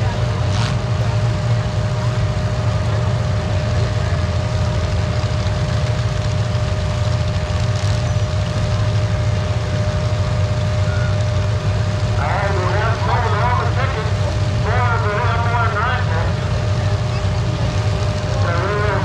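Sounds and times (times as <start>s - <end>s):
car engines running: 0.0s - 19.0s.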